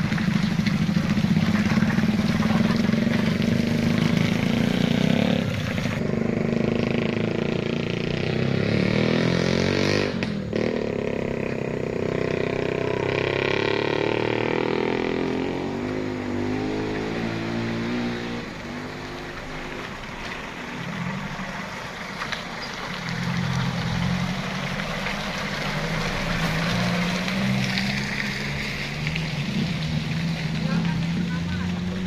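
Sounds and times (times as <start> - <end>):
truck engine laboring: 0.0 - 32.0.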